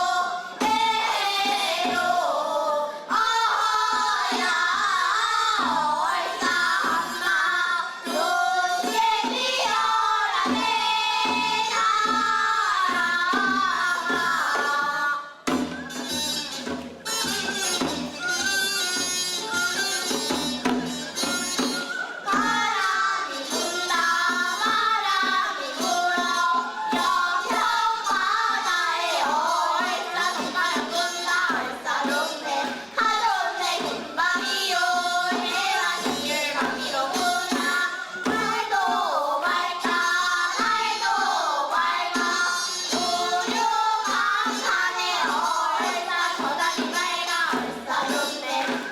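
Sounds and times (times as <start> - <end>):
women singing folk song: 0.0 - 15.7, 21.1 - 48.9
drum keeping time: 0.0 - 48.9.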